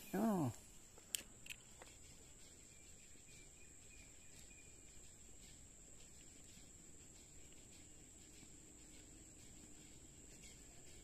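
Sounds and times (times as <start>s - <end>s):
riverside ambience: 0.0s - 11.0s
faint ticks: 0.1s - 11.0s.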